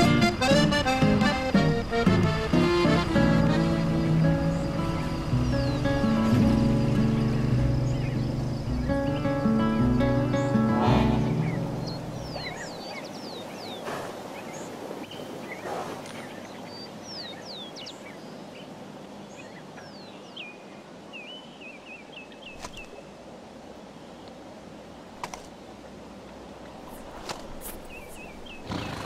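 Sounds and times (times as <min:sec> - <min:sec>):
small birds chirping: 0:00.0 - 0:29.0
steady outdoor hiss: 0:00.0 - 0:29.0.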